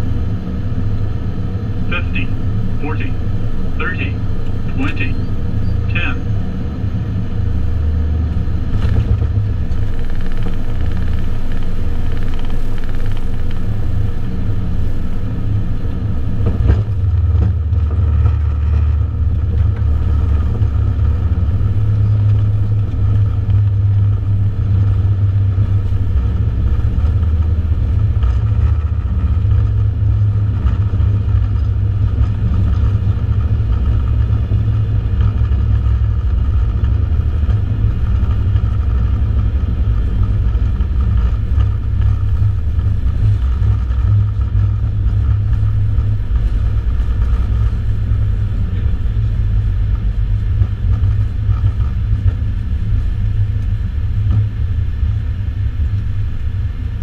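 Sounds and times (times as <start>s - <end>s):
airliner cockpit low rumble: 0.0s - 57.0s.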